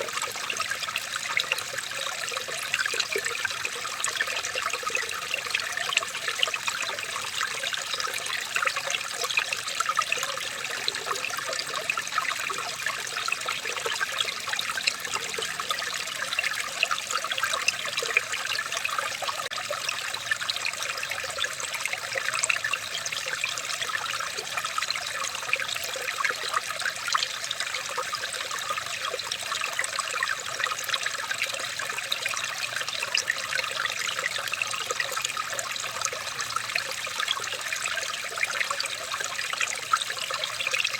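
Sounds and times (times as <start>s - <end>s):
water trickling and bubbling: 0.0s - 40.9s.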